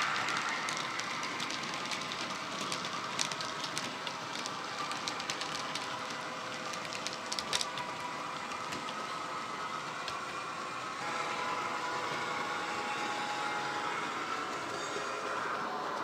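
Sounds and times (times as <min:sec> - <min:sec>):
model train wheels clicking on rails: 0:00.0 - 0:16.0.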